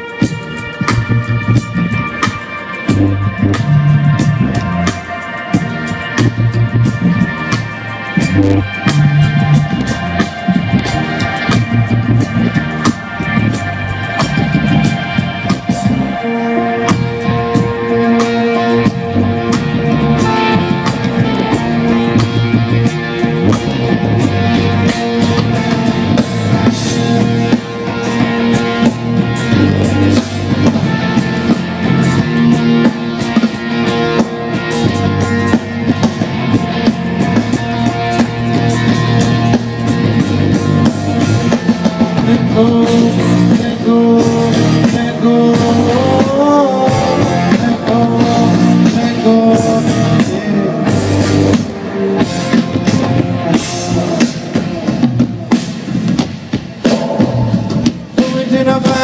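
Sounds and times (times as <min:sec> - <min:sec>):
live band through speakers: 0:00.0 - 0:59.0.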